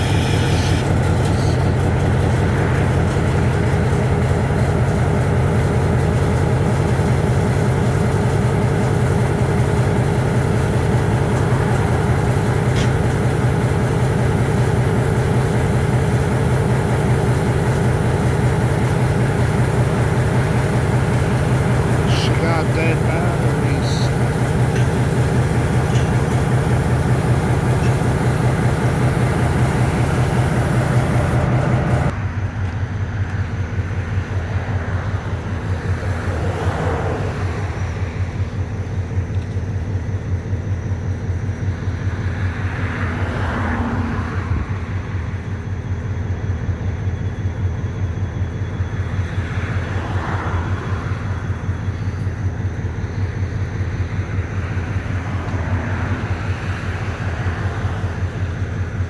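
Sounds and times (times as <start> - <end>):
diesel engine cranking: 0.0 - 59.0
locomotive engine idling: 0.0 - 59.0.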